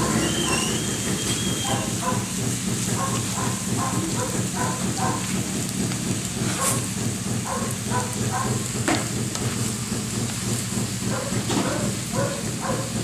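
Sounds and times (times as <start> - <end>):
fish and vegetables sizzling: 0.0 - 13.0.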